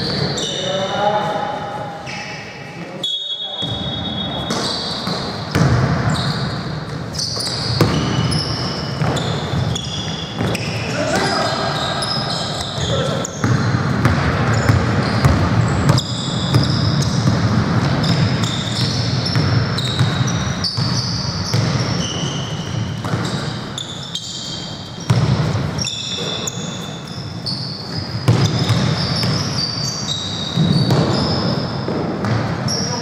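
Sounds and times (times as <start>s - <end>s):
sneakers squeaking on floor: 0.0s - 33.0s
basketball bouncing: 3.6s - 26.9s, 27.8s - 32.8s.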